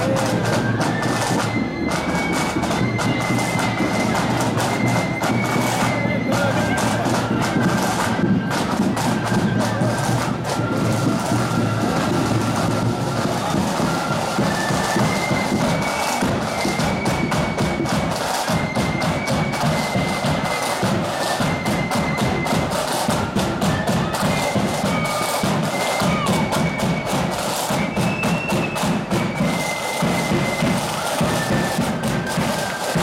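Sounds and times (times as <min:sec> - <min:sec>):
shrill flute melody: 0:00.0 - 0:33.0
snare drums: 0:00.0 - 0:33.0.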